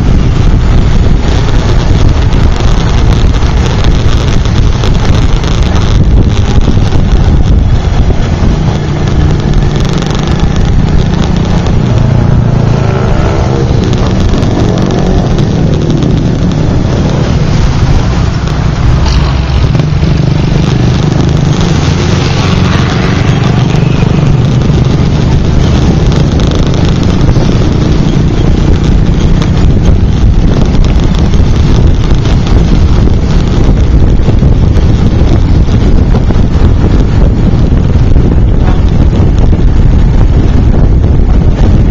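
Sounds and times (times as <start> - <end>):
motorcycle engine running: 0.0 - 41.9
wind rumble on microphone: 0.0 - 41.9.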